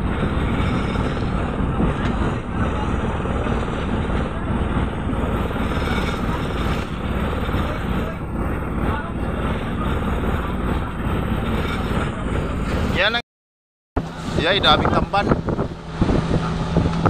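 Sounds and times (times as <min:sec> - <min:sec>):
boat engine pulsing: 0:00.0 - 0:13.2, 0:14.0 - 0:17.0.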